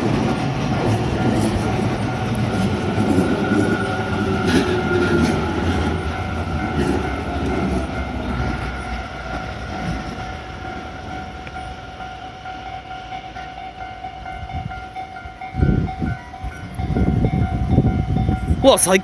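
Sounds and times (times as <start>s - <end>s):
crossing warning bell ringing: 0.0s - 19.0s
electric train rumbling past: 0.0s - 19.0s.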